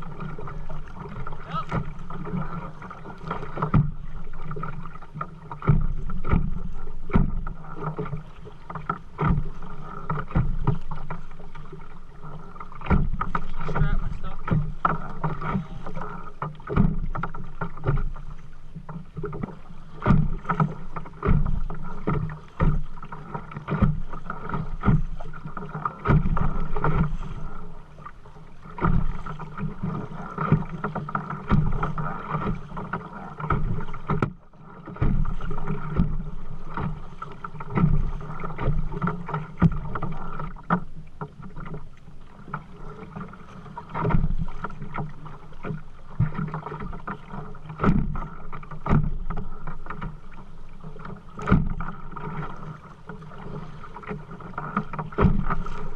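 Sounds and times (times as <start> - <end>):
paddle knocking against boat: 0.0 - 55.9
paddle strokes splashing: 0.0 - 55.9.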